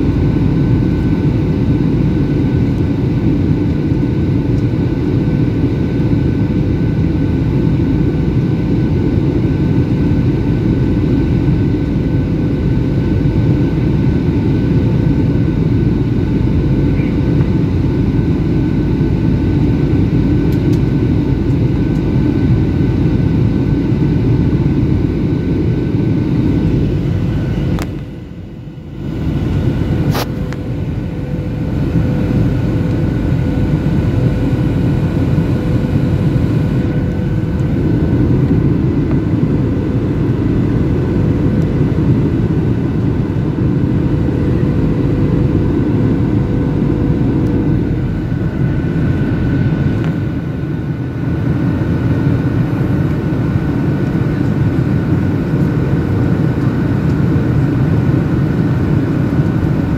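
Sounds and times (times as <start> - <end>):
airplane cabin engine rumble: 0.0 - 59.9
faint steady hums: 0.0 - 59.9.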